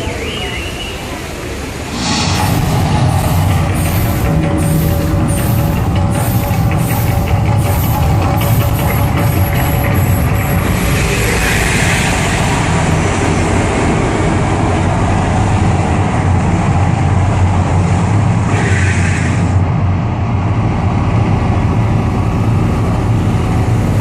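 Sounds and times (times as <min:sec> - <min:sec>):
loud low rumble: 0:01.6 - 0:18.5, 0:19.5 - 0:24.0.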